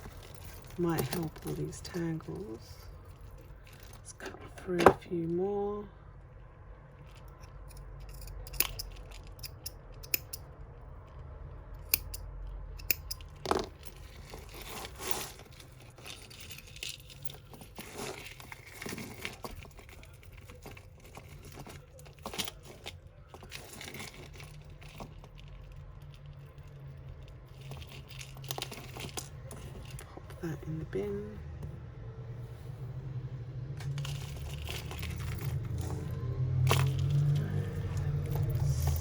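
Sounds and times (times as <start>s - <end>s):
beads and chains rustling: 0.0s - 5.0s, 6.9s - 11.3s, 12.9s - 31.3s, 33.8s - 39.0s.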